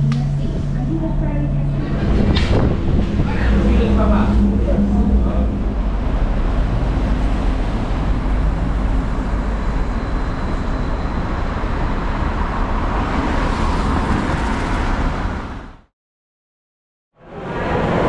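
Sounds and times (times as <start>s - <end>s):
traffic rumble: 0.0s - 15.9s.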